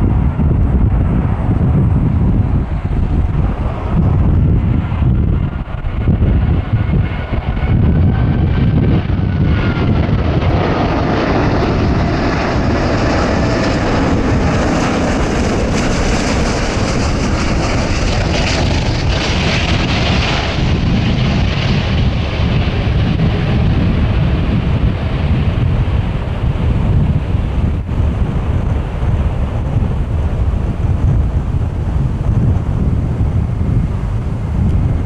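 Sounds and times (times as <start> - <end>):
high jet whine: 0.0 - 35.0
jet engines rumbling overhead: 0.0 - 35.0.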